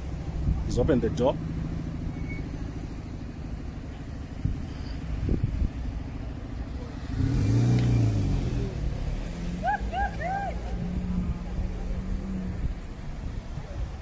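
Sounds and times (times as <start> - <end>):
car engines humming: 0.0 - 14.0
vehicle passing by: 0.0 - 14.0.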